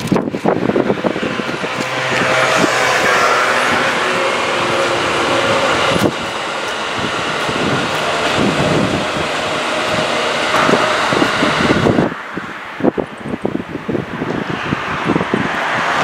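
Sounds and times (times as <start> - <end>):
electric train on rails: 0.0 - 16.0
wind buffeting microphone: 0.0 - 16.0.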